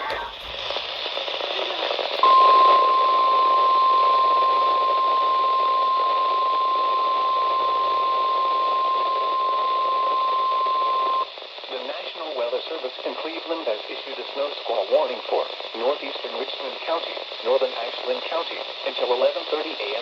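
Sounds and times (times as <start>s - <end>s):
radio receiver hiss: 0.0s - 20.0s.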